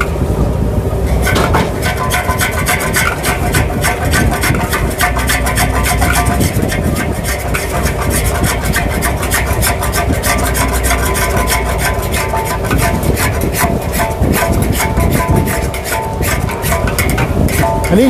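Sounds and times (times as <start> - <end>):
gas burner rumbling: 0.0 - 18.0
pan bubbling: 0.0 - 18.0
metal spatula scraping wok: 1.0 - 18.0.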